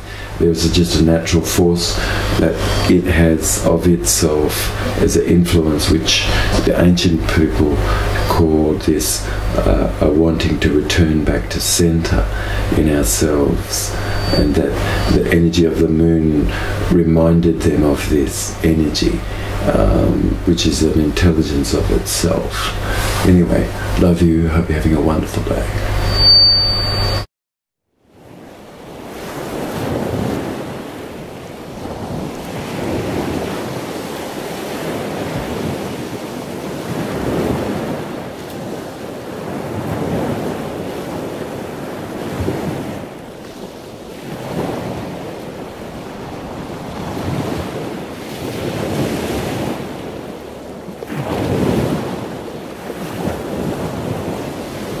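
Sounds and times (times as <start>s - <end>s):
waves washing in and out: 0.0s - 27.2s, 28.0s - 55.0s.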